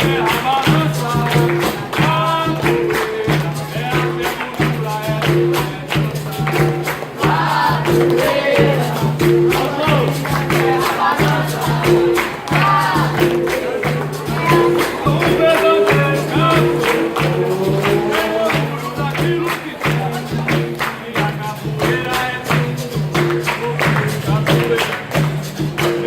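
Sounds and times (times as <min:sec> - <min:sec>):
voices singing: 0:00.0 - 0:26.0.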